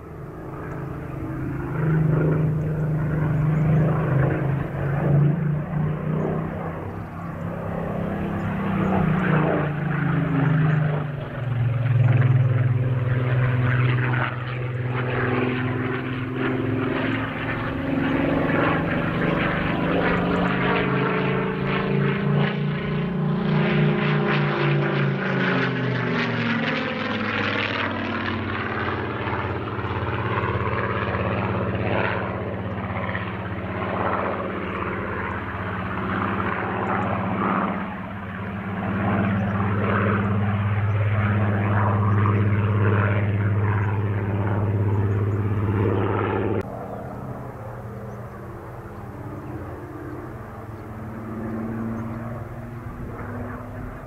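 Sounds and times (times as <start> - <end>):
aircraft piston engine drone: 0.0 - 54.0.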